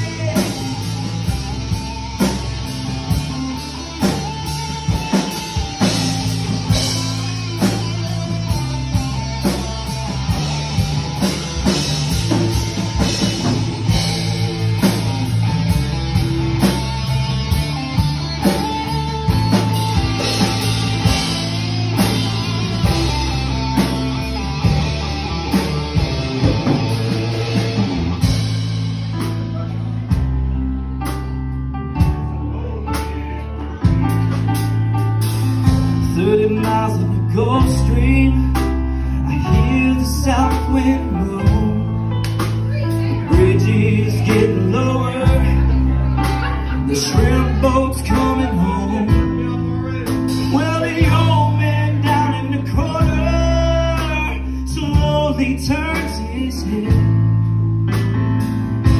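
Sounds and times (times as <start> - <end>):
drum kit beat: 0.0 - 31.4, 32.0 - 32.4, 33.0 - 38.7, 39.4 - 58.9
bass guitar: 0.0 - 58.9
electric guitars: 0.0 - 58.9.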